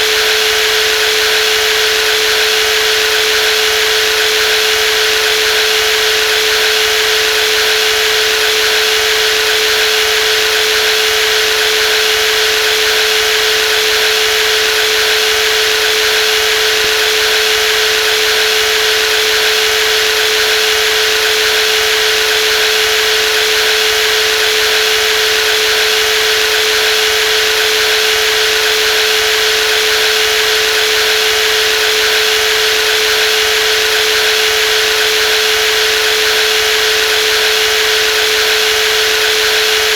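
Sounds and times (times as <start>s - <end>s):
jigsaw running with whine: 0.0s - 39.9s.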